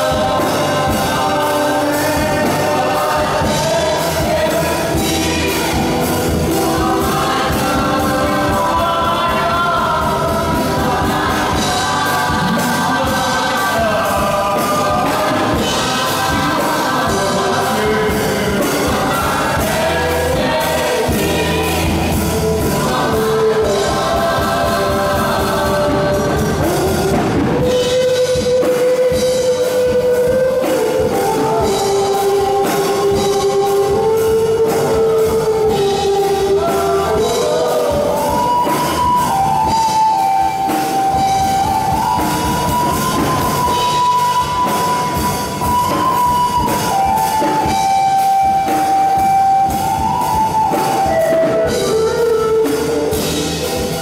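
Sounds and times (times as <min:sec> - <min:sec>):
backing music with steady beat: 0:00.0 - 0:54.0
group of people singing gospel: 0:00.0 - 0:54.0.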